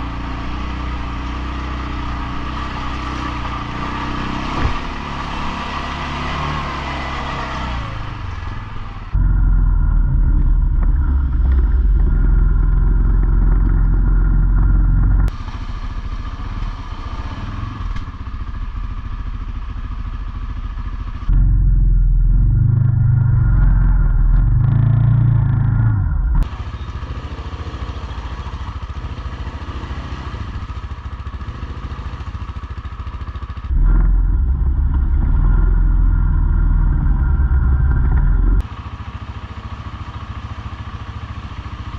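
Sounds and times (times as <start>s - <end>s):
atv engines running: 0.0s - 41.9s.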